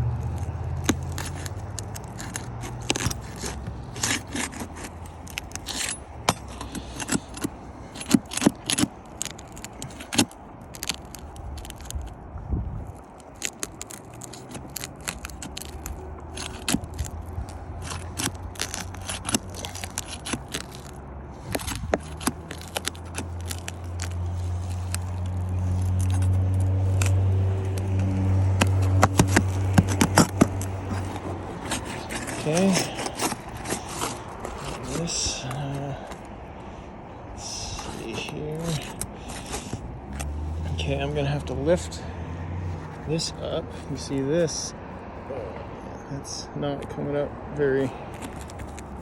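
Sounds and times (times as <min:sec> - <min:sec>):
tool scraping under shingles: 0:00.0 - 0:12.2, 0:12.8 - 0:44.7, 0:47.7 - 0:49.0.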